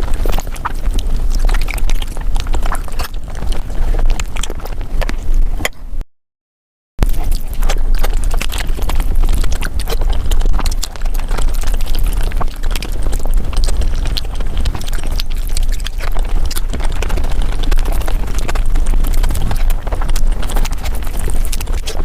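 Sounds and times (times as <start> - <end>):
fast chewing and mouth smacks: 0.0 - 5.7, 7.0 - 22.0.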